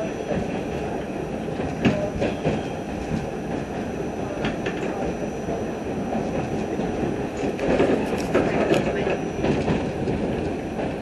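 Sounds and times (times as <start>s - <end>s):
wheels rumbling on rail: 0.0s - 11.0s.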